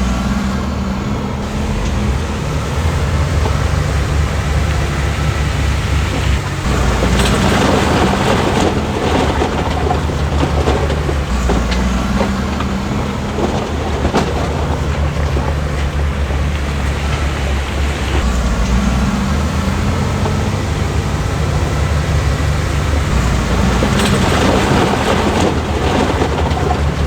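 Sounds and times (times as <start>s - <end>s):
diesel engine running under load: 0.0s - 27.0s
metal and rock clanking: 5.2s - 27.0s.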